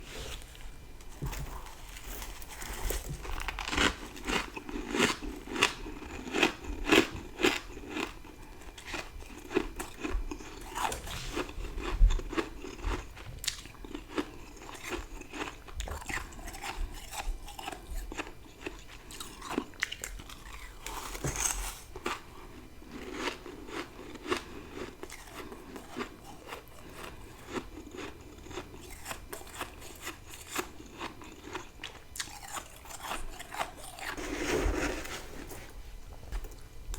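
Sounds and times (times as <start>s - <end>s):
crunchy frost being chewed: 0.1s - 36.9s.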